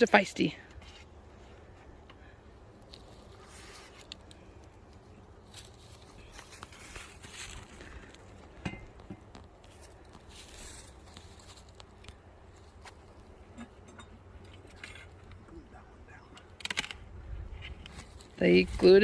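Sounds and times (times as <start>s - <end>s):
rustling and scraping of hive parts: 0.6s - 19.0s.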